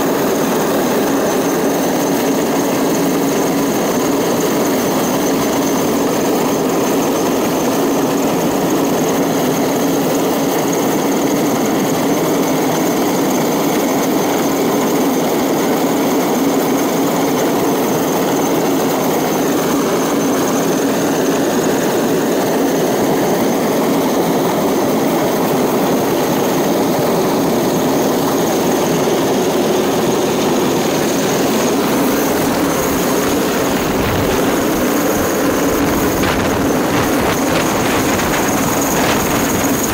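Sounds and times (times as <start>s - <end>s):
faint high whine: 0.0s - 39.9s
helicopter rotor and engine noise: 0.0s - 39.9s.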